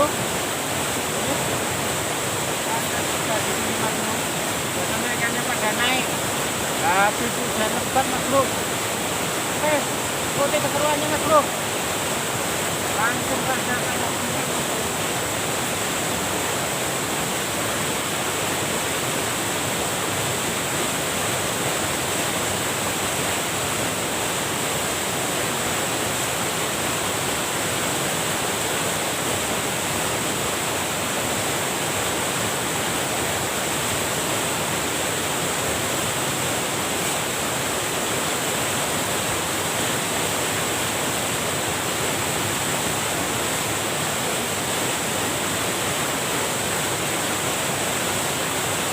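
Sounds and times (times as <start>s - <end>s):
water rushing over waterfall: 0.0s - 48.9s.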